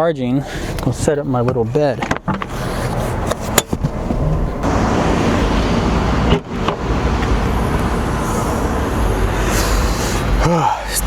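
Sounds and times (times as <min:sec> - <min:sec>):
road traffic rumble: 0:00.4 - 0:11.0.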